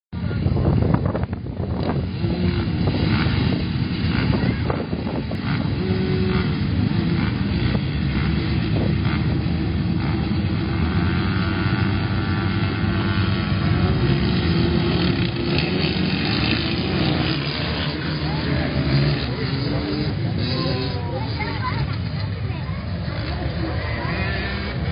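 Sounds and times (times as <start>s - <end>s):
dirt bike engines din: 0.2s - 24.9s
dirt bike engine revving: 1.6s - 24.9s.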